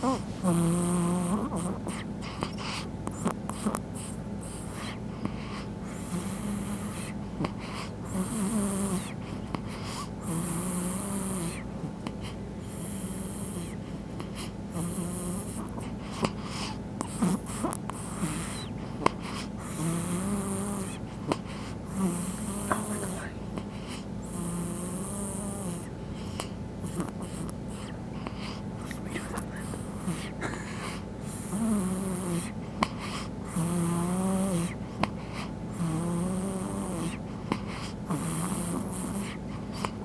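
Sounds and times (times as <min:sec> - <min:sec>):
baby snoring: 0:00.0 - 0:40.0.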